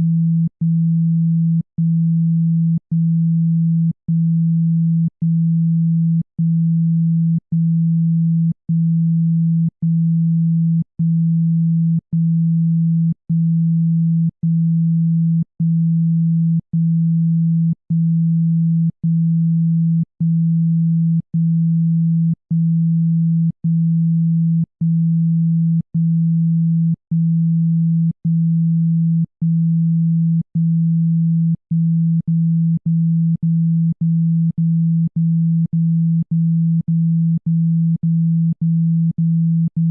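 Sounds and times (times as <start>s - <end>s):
low pulsing pure tone: 0.0s - 39.9s.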